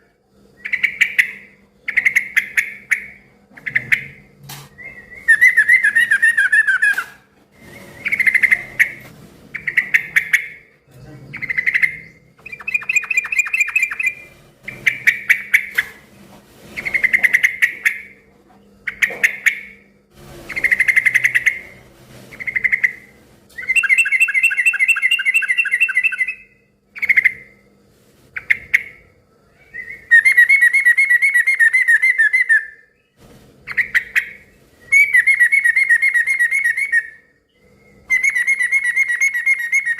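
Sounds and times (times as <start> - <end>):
bird singing trilled phrases: 0.6 - 15.8, 20.5 - 27.6, 28.4 - 39.9.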